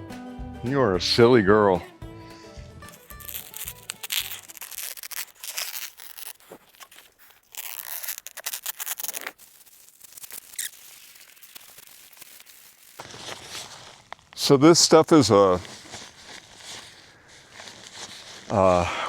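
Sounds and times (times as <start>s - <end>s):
plastic sheet rustling and crackling: 2.9s - 18.8s.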